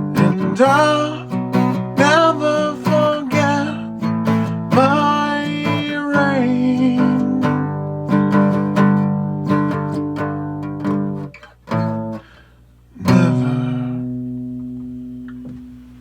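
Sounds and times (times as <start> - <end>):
guitar playing slow song: 0.0 - 16.0.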